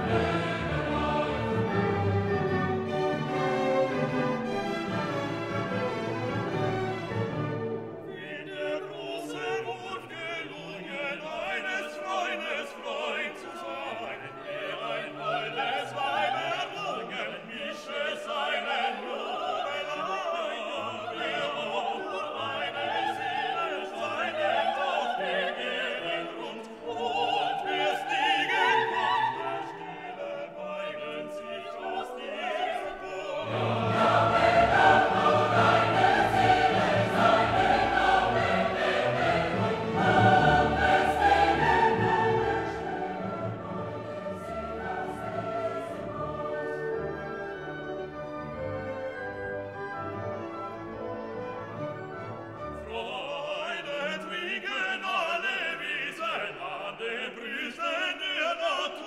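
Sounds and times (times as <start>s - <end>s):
choral singing: 0.0s - 50.2s, 52.5s - 59.0s
orchestra: 0.0s - 59.0s.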